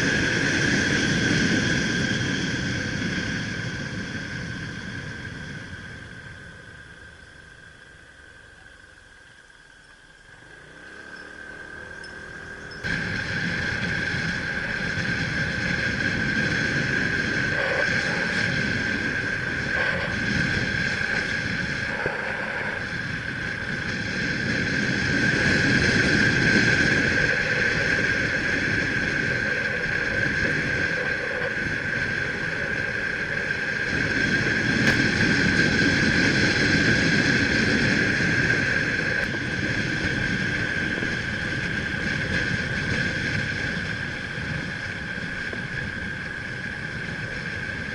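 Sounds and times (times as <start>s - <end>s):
motorbike running at speed: 0.0s - 7.3s, 10.1s - 47.9s
steady high whine: 0.0s - 47.9s
wind rumbling on microphone: 0.0s - 47.9s.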